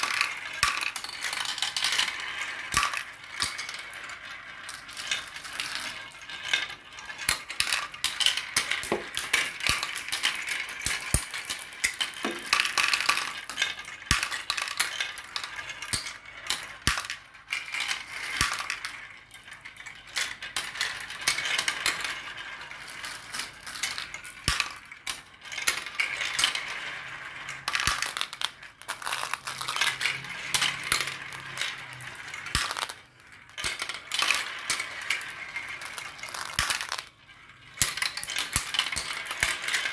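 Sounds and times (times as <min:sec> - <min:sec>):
marbles clattering down a track: 0:00.0 - 0:39.9.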